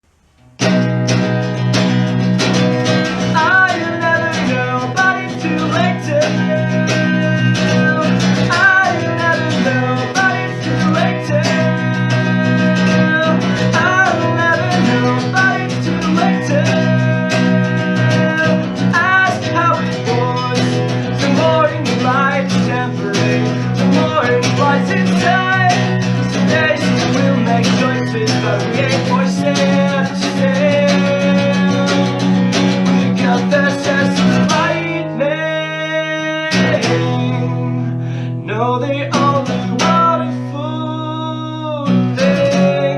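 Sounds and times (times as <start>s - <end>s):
acoustic guitar picking: 0.0s - 42.9s.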